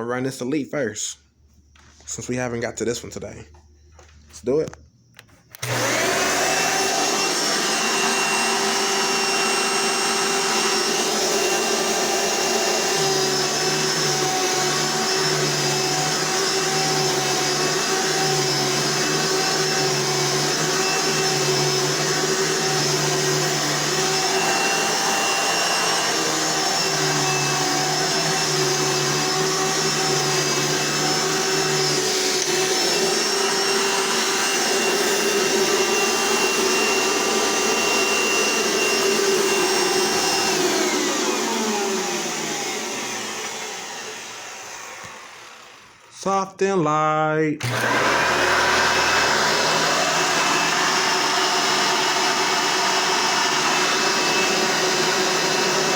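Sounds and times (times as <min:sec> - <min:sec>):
vacuum cleaner whine: 0:00.0 - 0:46.6, 0:47.6 - 0:55.9.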